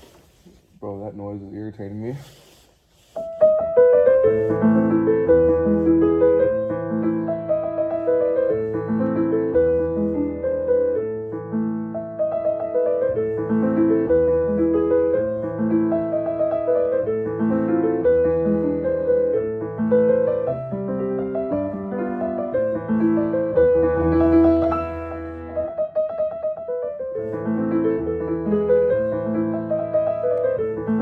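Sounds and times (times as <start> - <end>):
gentle piano piece: 3.0 - 31.0.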